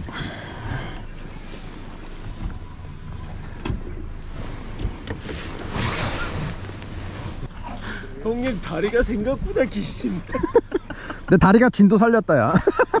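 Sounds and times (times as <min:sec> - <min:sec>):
boat motor idling: 0:00.0 - 0:11.3.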